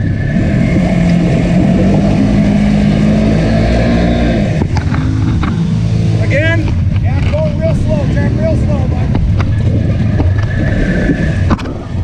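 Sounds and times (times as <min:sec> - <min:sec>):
atv engine running under load: 0:00.0 - 0:11.6.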